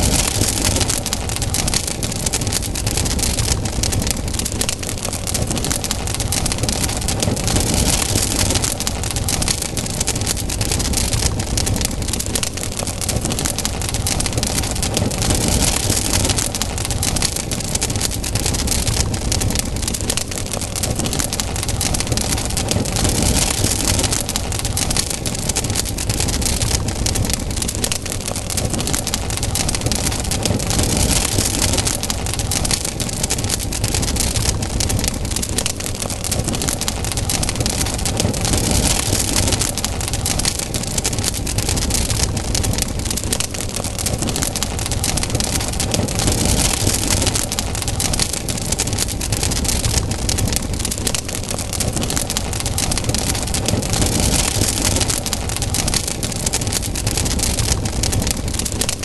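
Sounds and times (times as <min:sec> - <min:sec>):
fire hissing: 0:00.0 - 0:59.0
low rumble of flames: 0:00.0 - 0:59.0
wood crackling in fire: 0:00.0 - 0:59.0.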